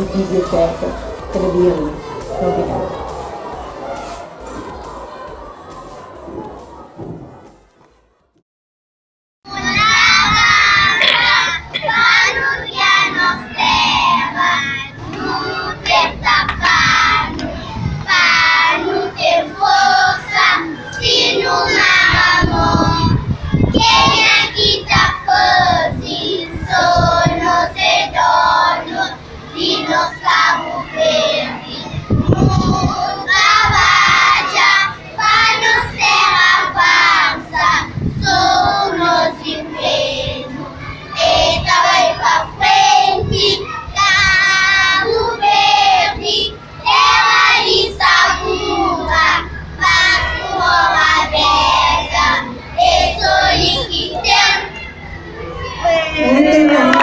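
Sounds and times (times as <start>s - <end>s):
children singing in unison: 0.0s - 7.6s, 9.5s - 55.9s.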